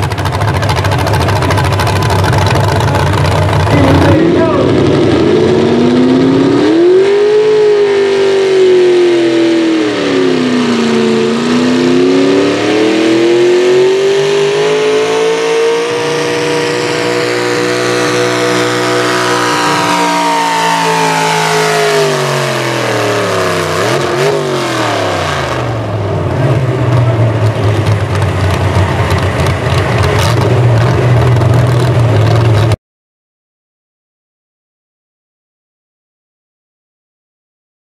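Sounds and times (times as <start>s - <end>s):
tractor engine at full throttle: 0.0s - 32.8s.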